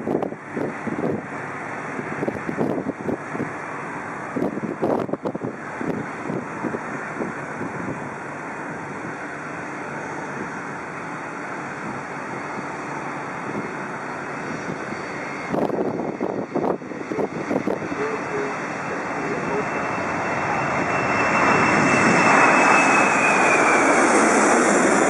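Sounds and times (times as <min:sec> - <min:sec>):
wind buffeting microphone: 0:00.0 - 0:09.3, 0:11.5 - 0:25.0
jet engines roaring: 0:00.0 - 0:25.0.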